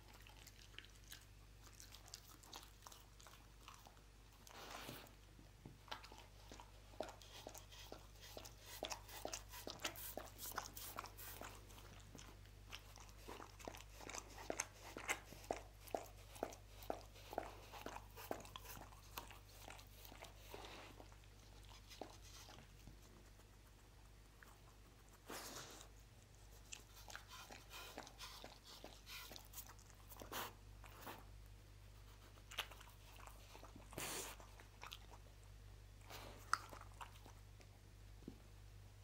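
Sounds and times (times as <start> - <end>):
dog licking and chewing: 0.0 - 31.3, 32.0 - 37.9.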